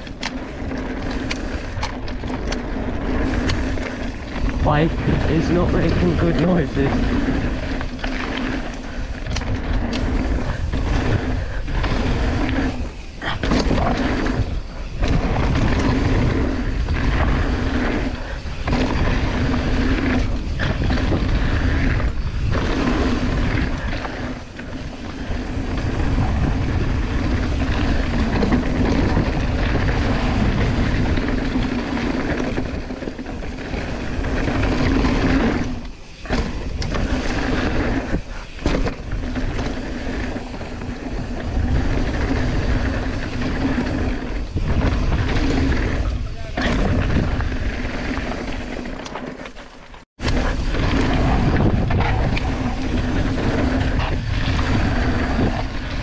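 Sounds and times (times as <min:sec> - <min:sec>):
wind on microphone: 0:00.0 - 0:48.6, 0:50.2 - 0:56.0
bike tyres on gravel trail: 0:00.0 - 0:56.0.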